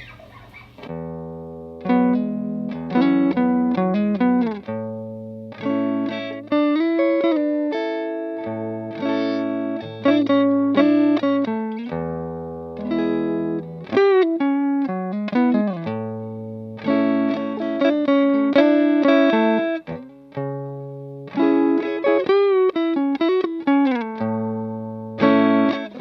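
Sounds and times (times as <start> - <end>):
clean electric guitar: 0.0 - 26.0.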